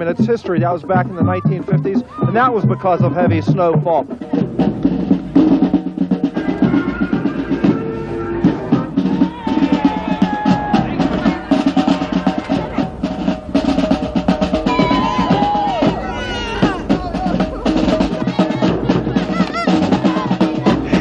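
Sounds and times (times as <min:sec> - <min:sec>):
bass drum beats: 0:00.0 - 0:21.0
parade band melody: 0:00.0 - 0:21.0
snare drum rolls: 0:01.2 - 0:21.0.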